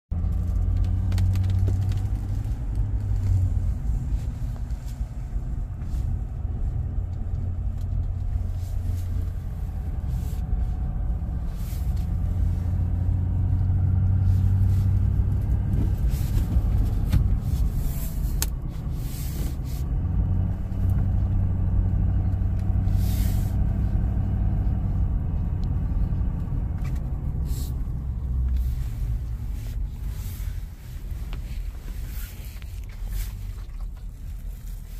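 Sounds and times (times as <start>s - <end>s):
engine and tyre rumble: 0.0s - 34.9s.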